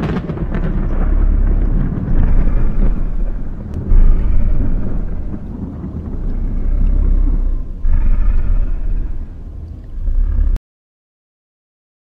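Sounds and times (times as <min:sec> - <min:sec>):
thunder rumbling: 0:00.0 - 0:10.6.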